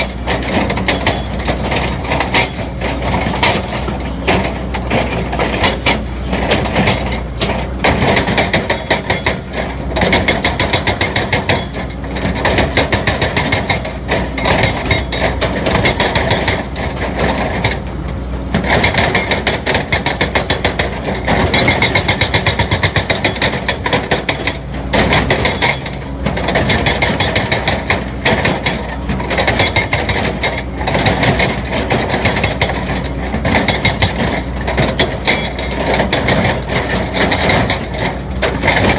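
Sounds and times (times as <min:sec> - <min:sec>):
excavator engine under load: 0:00.0 - 0:38.9
metallic clatter and knocking: 0:00.0 - 0:38.9.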